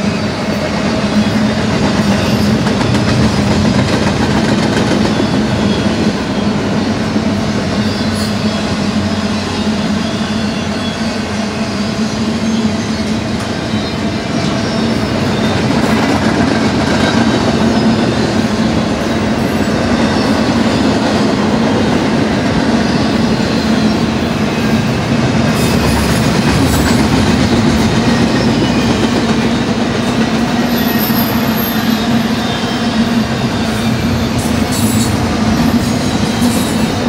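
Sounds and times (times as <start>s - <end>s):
steel wheels rumbling on rails: 0.0s - 37.0s.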